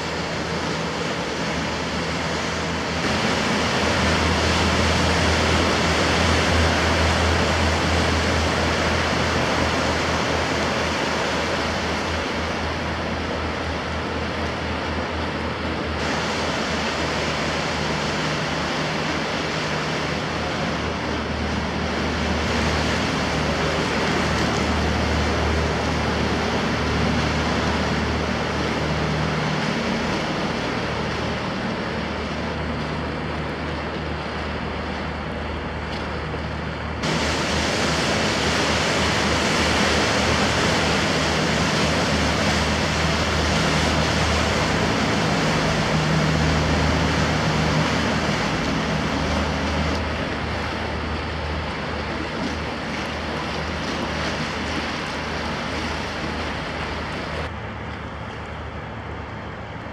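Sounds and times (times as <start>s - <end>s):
low engine hum: 0.0s - 59.9s
rushing boat wake: 0.0s - 59.9s.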